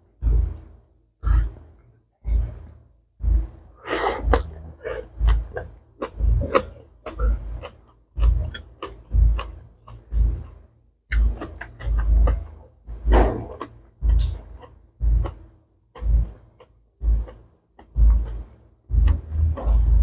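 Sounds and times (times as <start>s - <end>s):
person chewing and eating: 3.4s - 15.4s, 16.0s - 20.0s.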